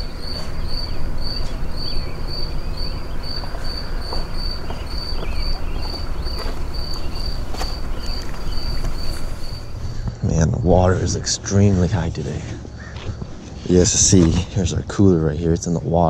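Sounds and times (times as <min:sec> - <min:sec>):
cricket chirping: 0:00.0 - 0:14.6.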